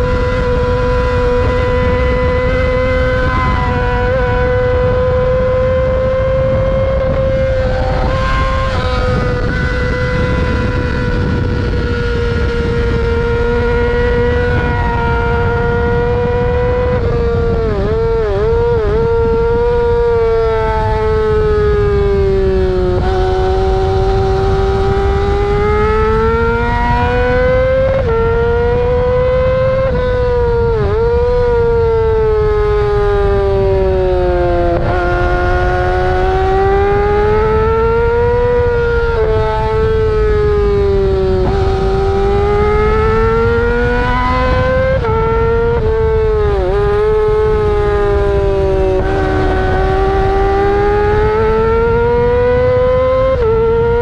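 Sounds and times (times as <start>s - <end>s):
motorcycle engine whining at high revs: 0.0s - 54.0s
wind rush: 0.0s - 54.0s.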